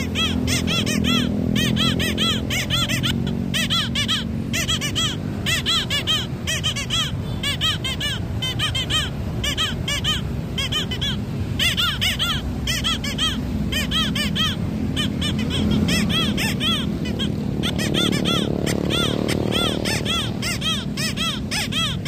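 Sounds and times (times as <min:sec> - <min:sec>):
balloon squeaker toy squeaks: 0:00.0 - 0:22.0.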